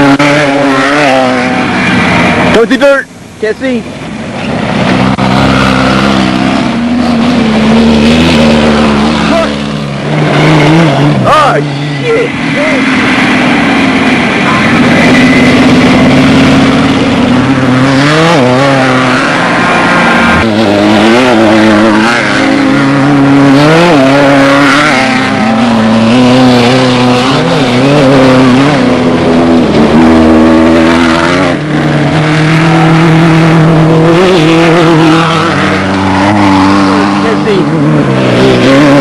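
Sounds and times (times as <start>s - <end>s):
engine revving hard: 0.0s - 3.0s, 4.7s - 39.0s.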